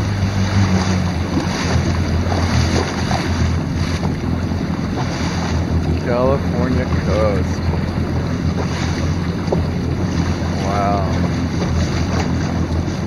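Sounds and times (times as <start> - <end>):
jet ski engine droning: 0.0 - 13.0
water splashing: 0.0 - 13.0
wind buffeting microphone: 0.0 - 13.0.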